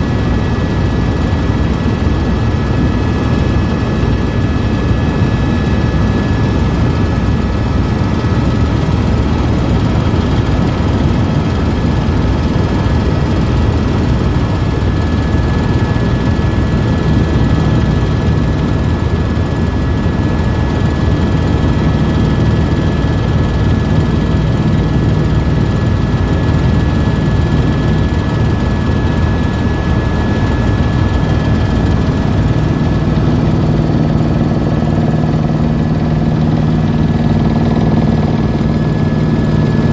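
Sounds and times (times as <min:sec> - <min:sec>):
helicopter rotor and engine rumble: 0:00.0 - 0:39.9.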